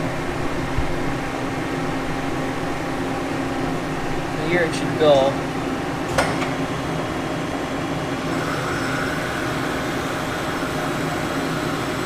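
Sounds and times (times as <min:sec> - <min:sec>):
mill machine drone: 0:00.0 - 0:12.0.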